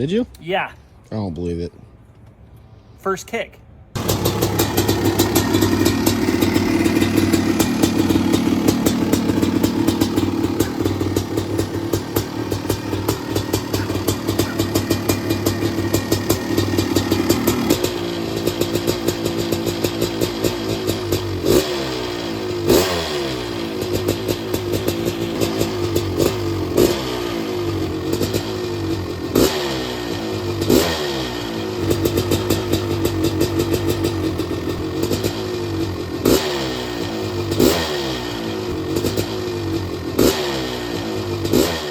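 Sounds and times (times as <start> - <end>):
dirt bike engine revving: 4.0 - 41.9.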